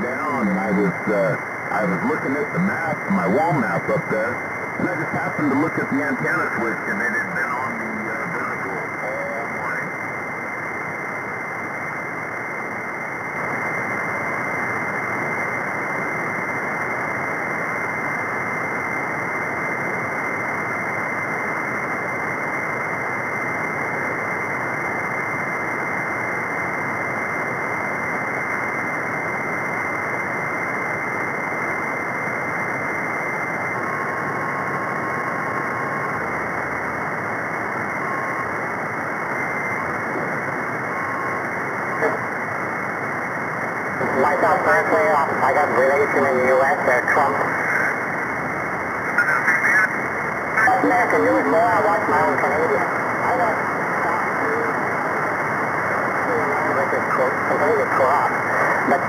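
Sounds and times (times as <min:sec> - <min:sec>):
radio static hiss: 0:00.0 - 0:59.0.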